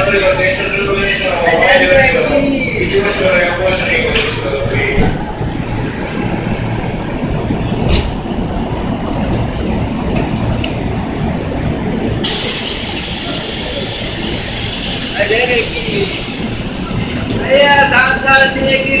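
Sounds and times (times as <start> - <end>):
railcar wheels rumbling: 0.0 - 19.0.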